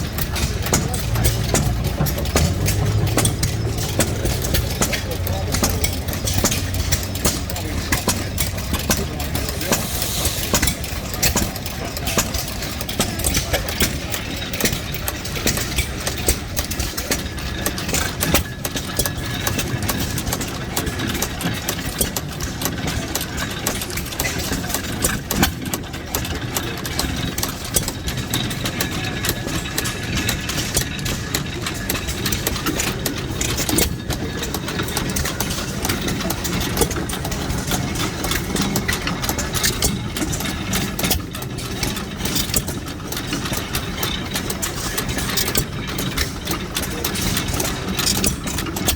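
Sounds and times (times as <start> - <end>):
stationary gas engines knocking: 0.0 - 48.9.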